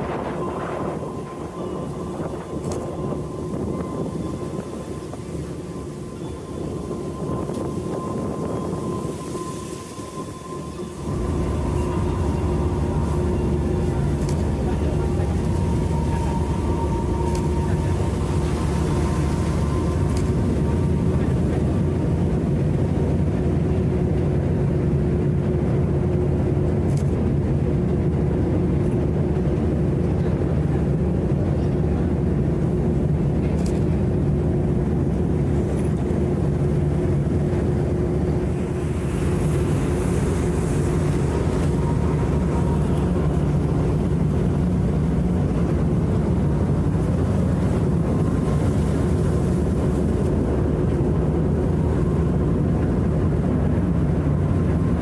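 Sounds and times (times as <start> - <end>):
ship engines droning: 0.0 - 55.0.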